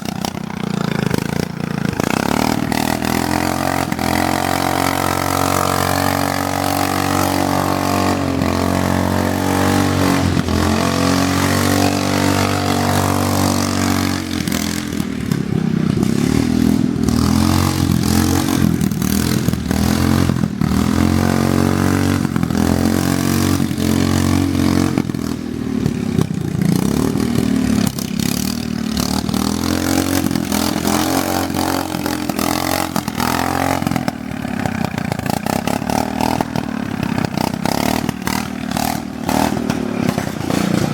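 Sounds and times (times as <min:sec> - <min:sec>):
riding lawn mower engine revving: 0:00.0 - 0:40.9.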